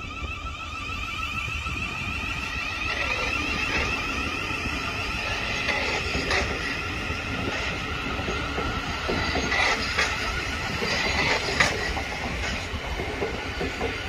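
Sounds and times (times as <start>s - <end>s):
train traction motor whine: 0.0s - 14.0s
wheels rumbling on rail: 0.0s - 14.0s.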